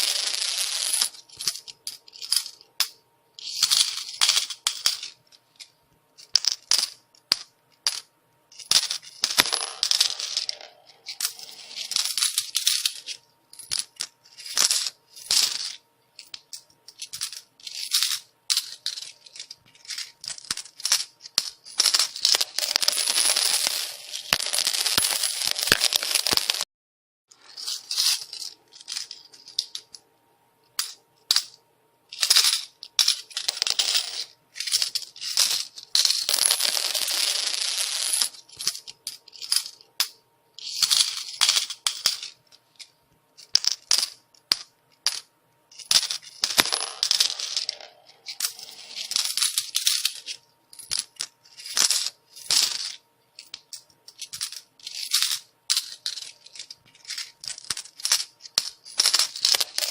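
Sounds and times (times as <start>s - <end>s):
metal coins clinking and pouring: 0.0s - 26.6s, 27.3s - 30.0s, 30.8s - 59.9s.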